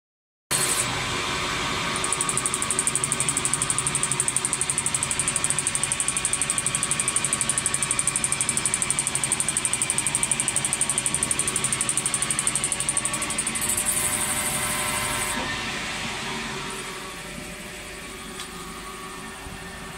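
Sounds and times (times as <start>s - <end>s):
lathe running with pulsing hiss: 0.8s - 19.9s.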